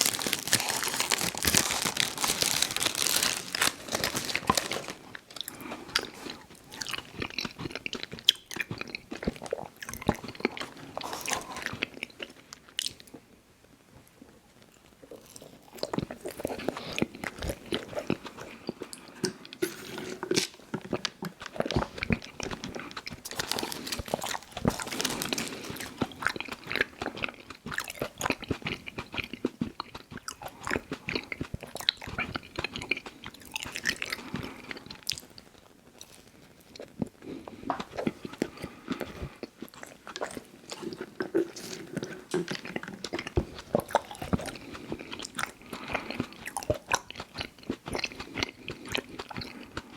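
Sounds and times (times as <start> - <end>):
close chewing with crunchy clicks: 3.3 - 13.3, 14.6 - 19.6, 20.2 - 49.9.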